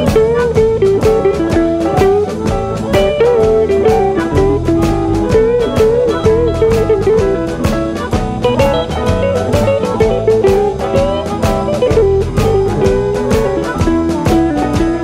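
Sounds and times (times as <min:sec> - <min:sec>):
drum kit beat: 0:00.0 - 0:15.0
electric blues lead guitar: 0:00.0 - 0:15.0.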